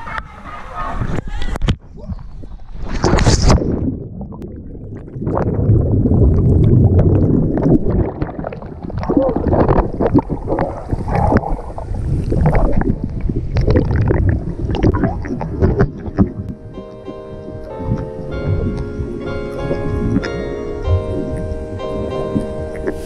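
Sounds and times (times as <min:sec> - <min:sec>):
muffled underwater rumble: 0:00.8 - 0:23.0
water sloshing: 0:02.2 - 0:23.0.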